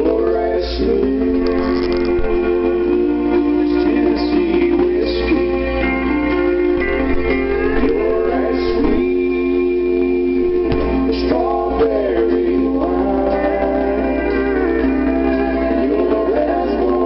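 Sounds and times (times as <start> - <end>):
country song: 0.0 - 17.0
guitar: 0.0 - 17.0
person singing: 0.0 - 17.0.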